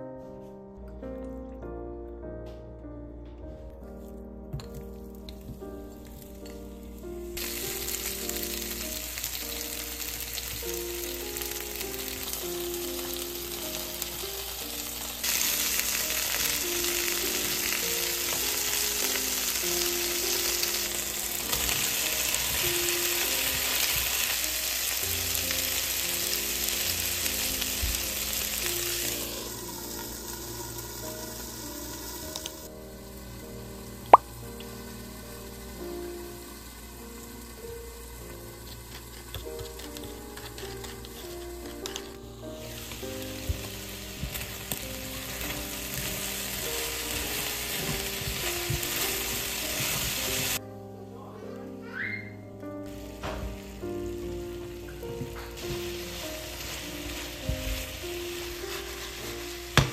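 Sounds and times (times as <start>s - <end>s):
background music: 0.0s - 59.9s
chicken sizzling in oil: 5.6s - 50.6s, 52.9s - 59.9s.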